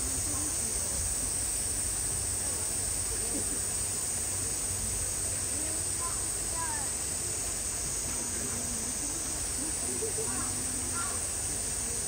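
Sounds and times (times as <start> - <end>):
distant murmuring voices: 0.0 - 12.0
steady outdoor hiss: 0.0 - 12.0.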